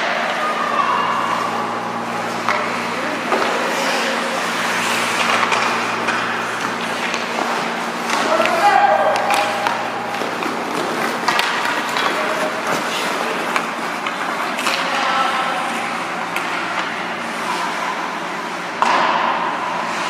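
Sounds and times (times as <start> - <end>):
ice rink noise: 0.0 - 20.0.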